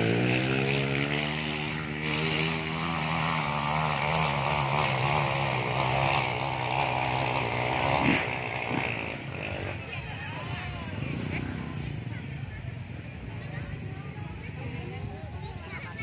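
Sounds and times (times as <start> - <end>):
motorcycle engine at high revs: 0.0 - 15.1.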